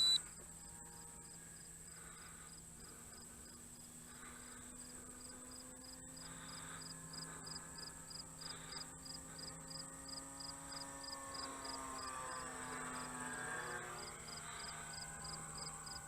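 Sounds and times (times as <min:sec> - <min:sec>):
electric motor and propeller hum: 0:00.0 - 0:16.0
insects chirping: 0:00.0 - 0:16.0.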